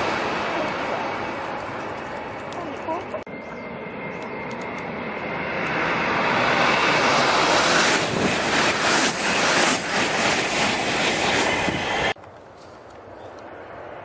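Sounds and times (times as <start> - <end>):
train rushing past: 0.0 - 3.6, 4.5 - 12.2
rapid pulses of train cars: 0.0 - 12.2.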